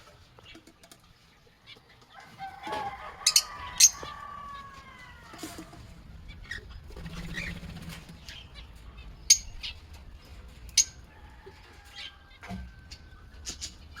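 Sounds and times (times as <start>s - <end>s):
lovebirds chirping: 0.0s - 14.0s.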